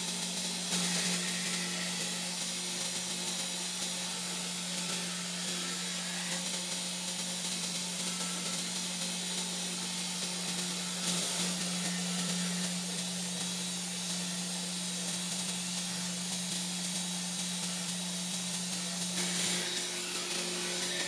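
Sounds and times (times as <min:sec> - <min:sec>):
belt grinder humming: 0:00.0 - 0:21.0
knife blade grinding hiss: 0:00.0 - 0:21.0.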